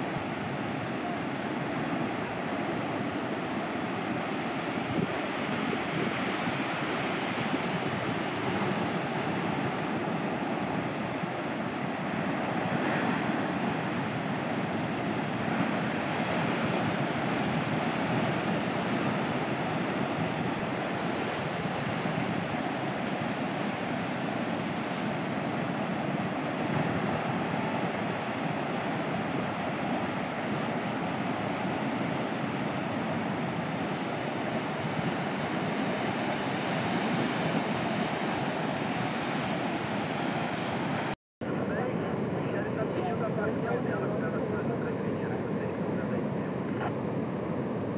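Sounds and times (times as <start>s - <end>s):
heavy ocean surf roaring: 0.0s - 47.9s.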